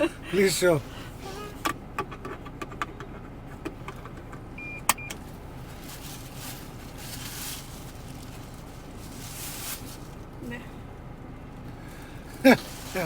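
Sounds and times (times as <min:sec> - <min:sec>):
road rumble in car cabin: 0:00.0 - 0:13.0.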